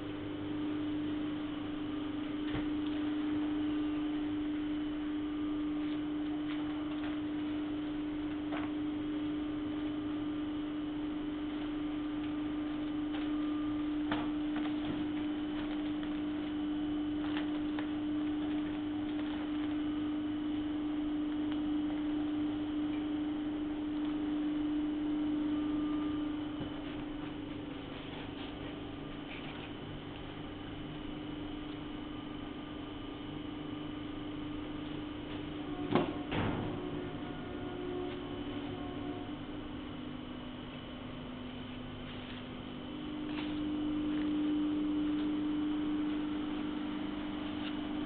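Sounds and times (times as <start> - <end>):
shrink wrapping machine hum: 0.0 - 48.0.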